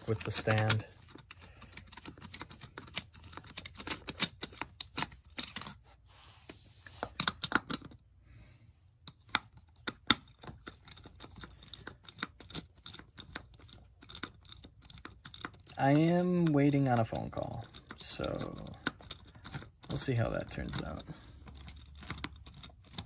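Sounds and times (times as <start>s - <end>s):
plastic wrench clicking and rattling: 0.0s - 5.8s, 7.0s - 8.0s, 9.0s - 23.0s.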